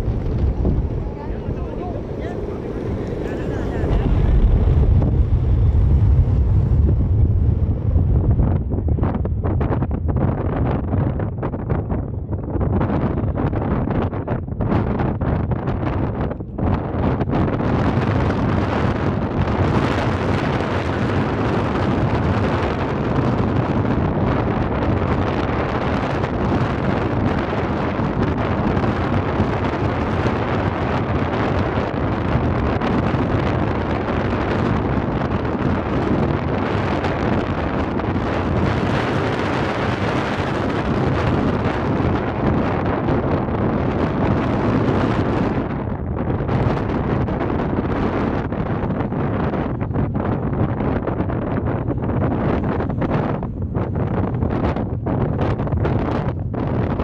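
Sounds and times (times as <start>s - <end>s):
strong wind on microphone: 0.0s - 57.0s.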